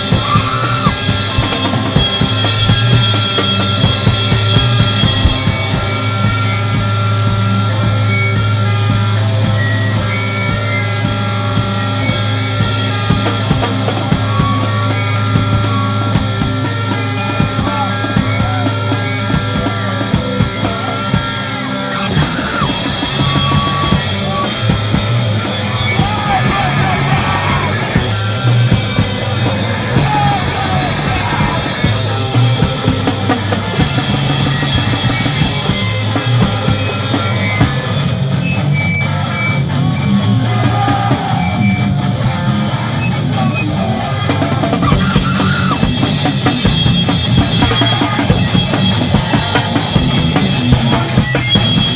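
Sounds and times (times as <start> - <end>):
drumming: 0.0 - 38.4, 40.5 - 41.6, 44.2 - 51.9
rock band playing live: 0.0 - 51.9.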